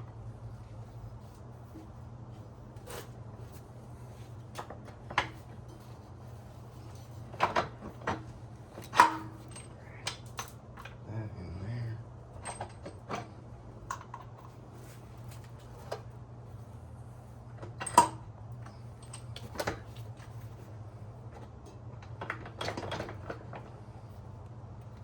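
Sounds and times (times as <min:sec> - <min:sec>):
steady low hum: 0:00.0 - 0:22.3.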